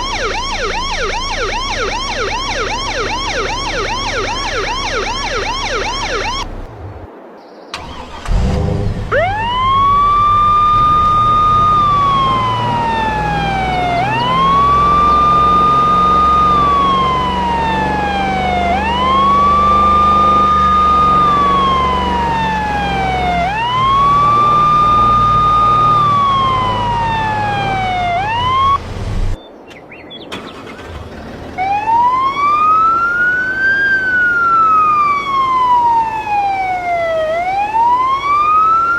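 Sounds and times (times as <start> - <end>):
electronic siren wailing: 0.0 - 7.0, 9.0 - 28.8, 31.6 - 38.9
truck engine rumble: 0.0 - 7.1, 7.8 - 38.9.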